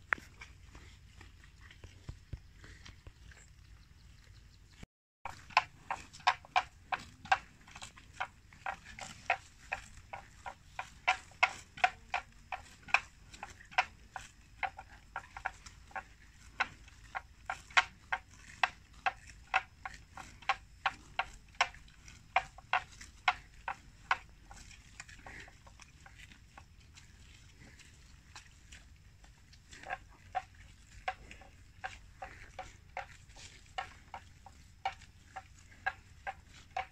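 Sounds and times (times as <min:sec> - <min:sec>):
buffalo tearing grass: 0:05.3 - 0:14.4, 0:15.5 - 0:36.9.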